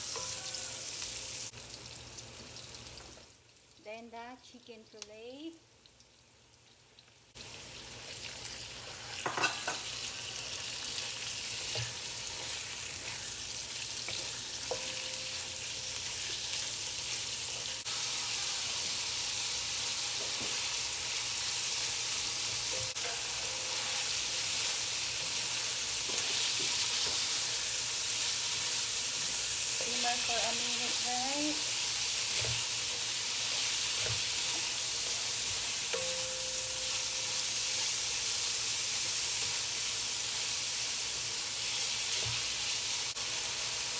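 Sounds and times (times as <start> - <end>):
meat sizzling in hot oil: 0.0 - 3.8, 4.4 - 43.9.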